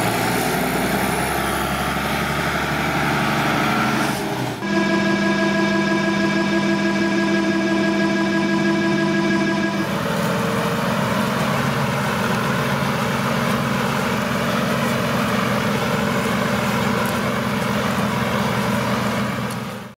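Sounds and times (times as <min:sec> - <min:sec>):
tractor engine running: 0:00.0 - 0:19.9.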